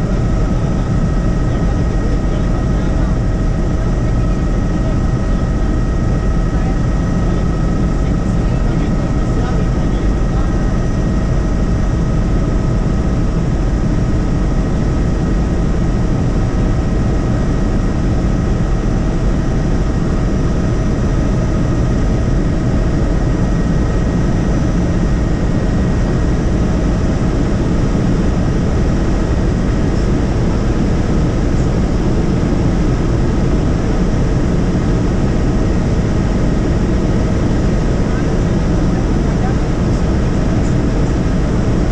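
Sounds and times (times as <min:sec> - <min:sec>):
constant whining tones: 0:00.0 - 0:41.9
helicopter engine and rotor drone: 0:00.0 - 0:41.9.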